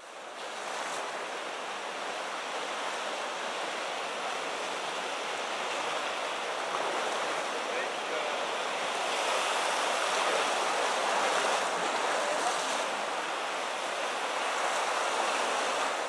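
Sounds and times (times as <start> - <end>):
sea surf rushing: 0.0 - 16.0.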